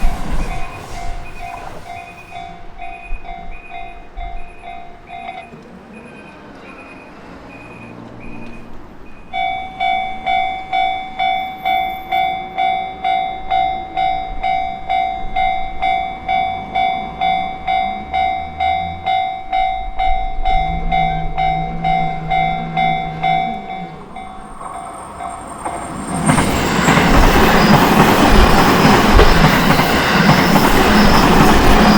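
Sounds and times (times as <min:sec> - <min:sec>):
level-crossing warning bell: 0:00.0 - 0:31.9.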